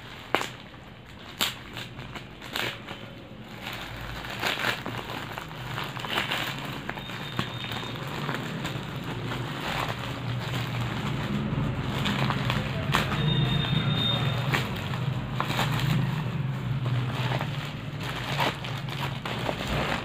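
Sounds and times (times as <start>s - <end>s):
plastic bag tearing: 0.0s - 20.0s
plastic crackles and rustling: 0.0s - 20.0s.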